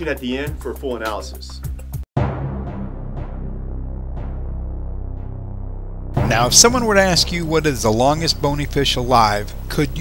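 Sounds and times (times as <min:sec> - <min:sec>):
background music with low notes: 0:00.0 - 0:10.0.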